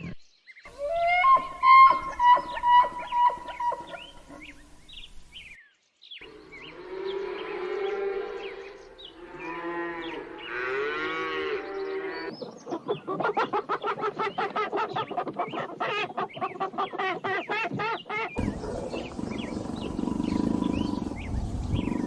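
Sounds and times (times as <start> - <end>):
small birds chirping: 0.0 - 22.0
poultry calling: 0.7 - 4.7, 6.3 - 21.3.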